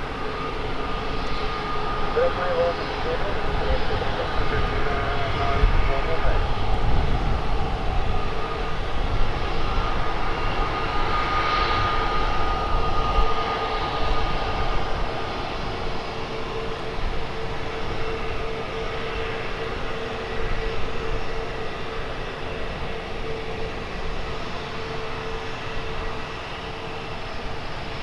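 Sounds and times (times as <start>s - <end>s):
jet engines whining: 0.0s - 28.0s.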